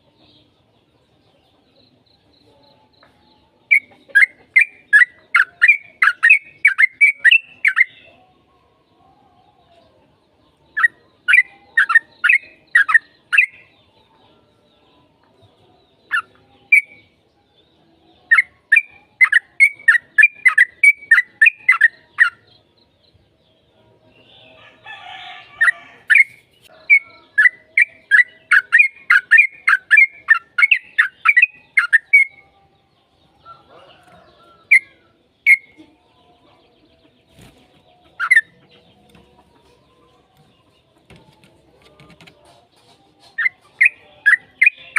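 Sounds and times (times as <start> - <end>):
bulbul chirping song: 0.0 - 8.2, 10.4 - 14.0, 15.2 - 44.9.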